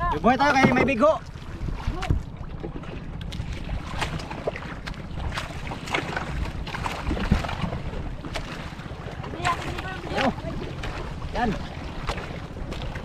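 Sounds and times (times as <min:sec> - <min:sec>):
water splashing and slapping: 0:00.0 - 0:13.0
wind buffeting microphone: 0:00.0 - 0:13.0.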